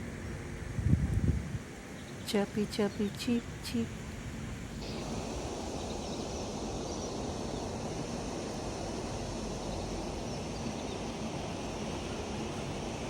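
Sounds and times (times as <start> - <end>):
rushing wind or water: 0.0 - 13.0.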